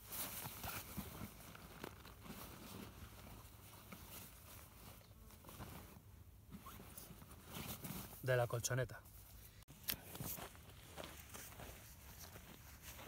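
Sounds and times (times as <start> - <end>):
nylon fabric rustling: 0.0 - 8.3, 10.2 - 13.0.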